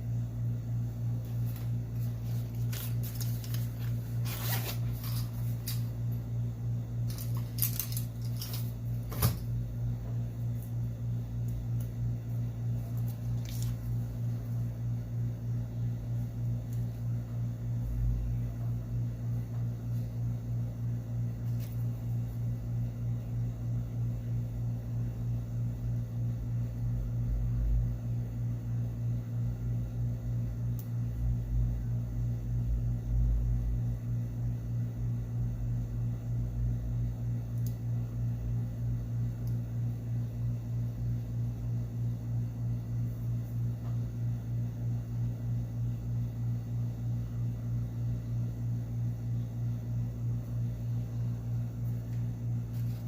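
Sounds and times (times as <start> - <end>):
low fan hum: 0.0 - 53.0.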